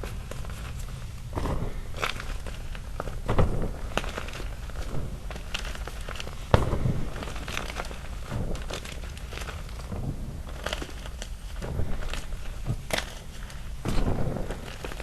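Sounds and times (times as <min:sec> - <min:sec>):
chalk chunks crunching: 0:00.0 - 0:15.0.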